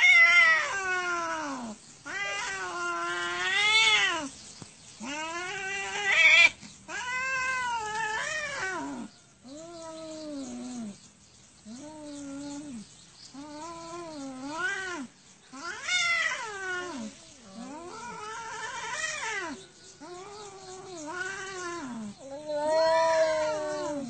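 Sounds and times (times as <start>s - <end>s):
cats yowling: 0.0s - 4.3s, 5.0s - 11.0s, 13.4s - 24.0s.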